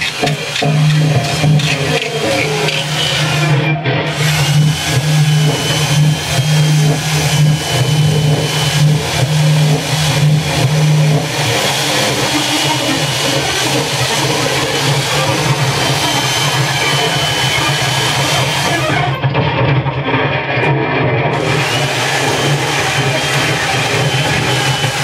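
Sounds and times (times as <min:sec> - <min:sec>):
chainsaw cutting wood: 0:00.0 - 0:19.1, 0:21.3 - 0:25.0.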